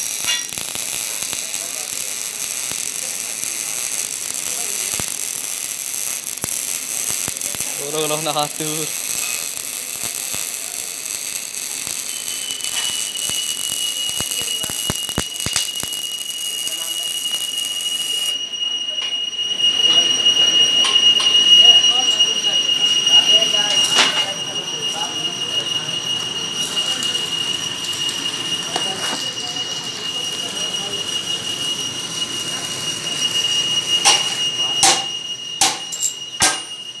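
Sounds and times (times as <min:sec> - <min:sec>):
welding arc sizzling and crackling: 0:00.0 - 0:18.4, 0:20.7 - 0:37.0
high-pitched machine whine: 0:00.0 - 0:37.0
steady high-pitched tone: 0:00.0 - 0:37.0.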